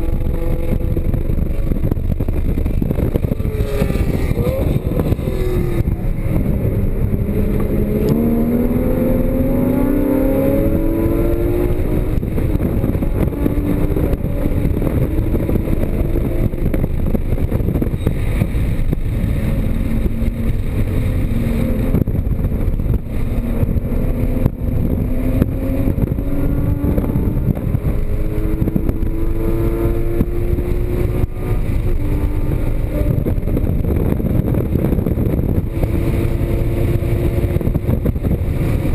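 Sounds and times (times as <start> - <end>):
car engine accelerating: 0.0 - 38.9
wind and road noise: 0.0 - 38.9.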